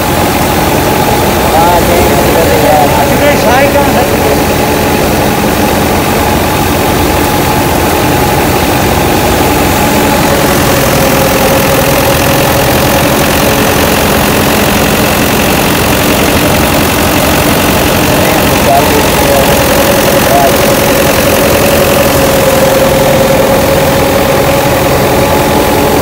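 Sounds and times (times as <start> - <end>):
thresher machinery running: 0.0 - 26.0
tractor diesel engine running: 0.0 - 26.0.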